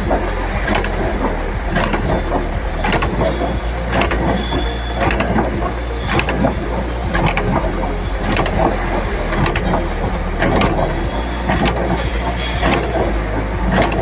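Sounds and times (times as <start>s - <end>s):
machinery humming: 0.0s - 14.0s
mechanical ticking: 0.0s - 14.0s.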